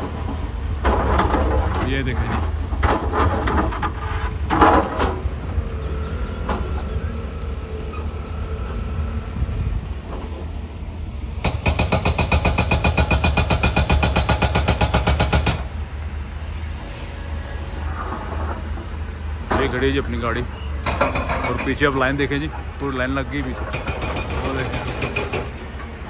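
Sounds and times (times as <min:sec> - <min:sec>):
vehicle engine rumble: 0:00.0 - 0:11.6, 0:15.5 - 0:26.0.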